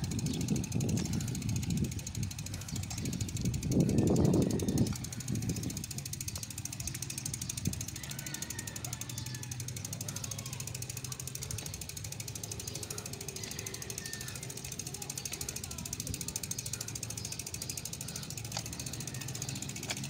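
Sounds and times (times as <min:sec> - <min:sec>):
bicycle freewheel clicking: 0:00.0 - 0:20.0.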